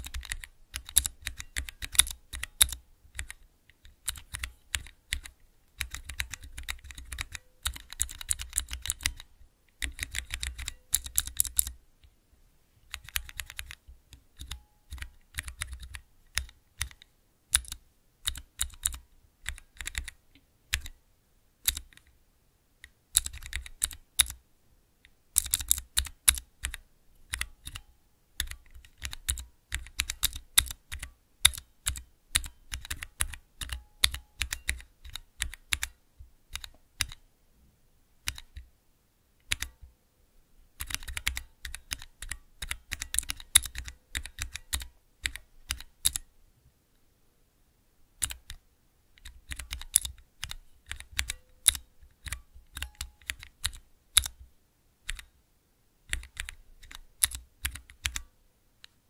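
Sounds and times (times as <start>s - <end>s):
mechanical keyboard typing: 0.0s - 11.8s, 12.9s - 21.0s, 21.6s - 22.1s, 22.8s - 24.4s, 25.4s - 27.8s, 28.4s - 37.2s, 38.2s - 38.6s, 39.4s - 39.8s, 40.8s - 46.2s, 48.2s - 48.6s, 49.2s - 54.4s, 55.1s - 55.3s, 56.1s - 58.3s.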